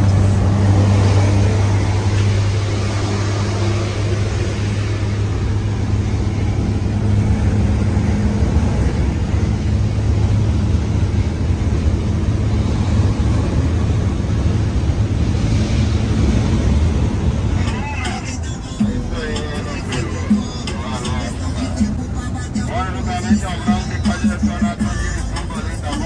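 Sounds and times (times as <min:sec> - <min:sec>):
road and wind noise: 0:00.0 - 0:26.0
truck engine droning: 0:00.0 - 0:26.0.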